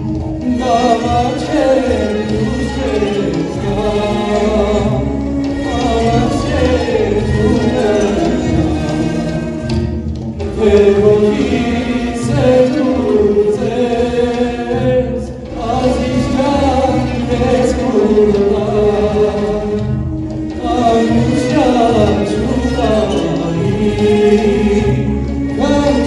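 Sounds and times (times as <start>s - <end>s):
boys' choir singing: 0.0s - 26.0s
man singing: 0.4s - 9.8s, 10.4s - 20.0s, 20.6s - 26.0s.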